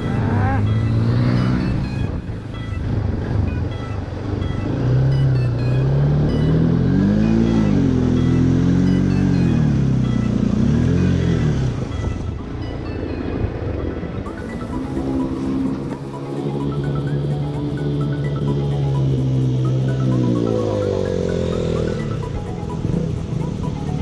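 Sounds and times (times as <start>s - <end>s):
faint music: 0.0s - 24.0s
motorcycle engine running: 0.0s - 24.0s.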